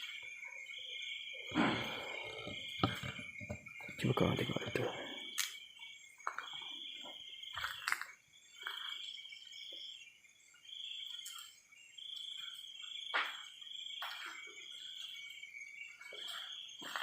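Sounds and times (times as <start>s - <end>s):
night insects chirring: 0.0s - 17.0s.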